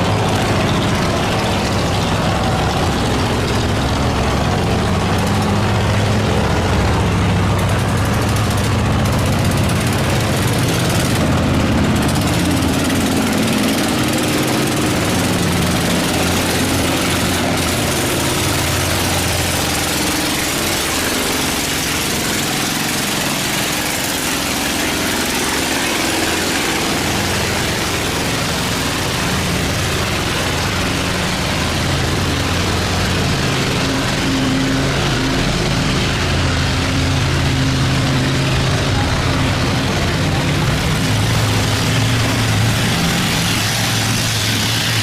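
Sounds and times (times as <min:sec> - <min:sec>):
boat engines humming: 0:00.0 - 0:45.0.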